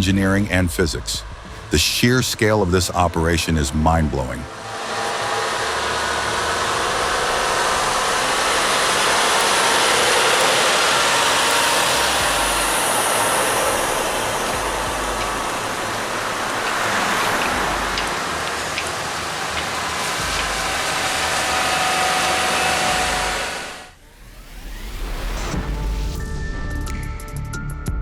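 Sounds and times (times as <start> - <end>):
heavy truck engines: 0.0 - 23.9
road noise: 0.0 - 24.0.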